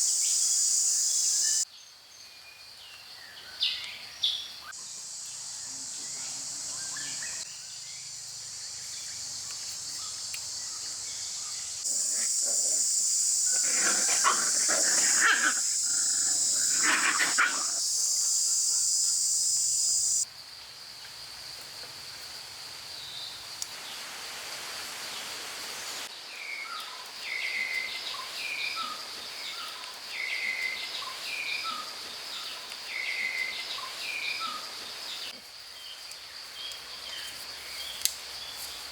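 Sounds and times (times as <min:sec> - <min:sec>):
insects droning: 0:00.0 - 0:01.6, 0:04.5 - 0:38.9.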